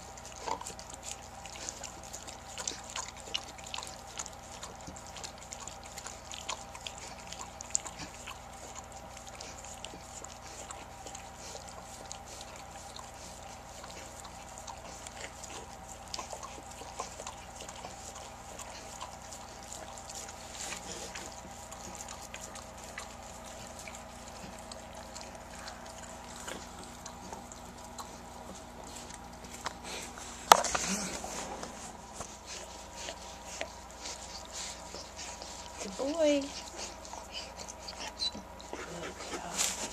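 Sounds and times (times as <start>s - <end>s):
dog licking wetly: 0.0s - 39.9s
faint steady hum: 0.0s - 39.9s.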